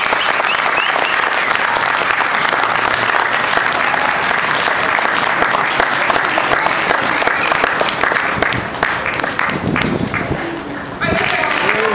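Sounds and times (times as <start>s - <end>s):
children applauding: 0.0s - 11.9s.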